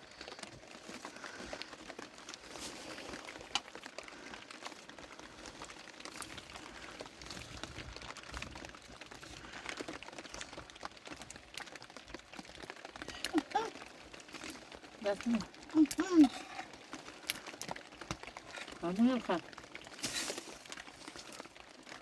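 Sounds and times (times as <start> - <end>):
small clicks and rustles: 0.0 - 22.0.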